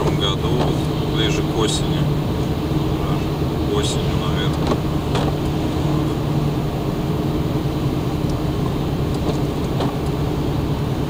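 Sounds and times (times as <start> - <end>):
car engine drone from inside: 0.0 - 11.0.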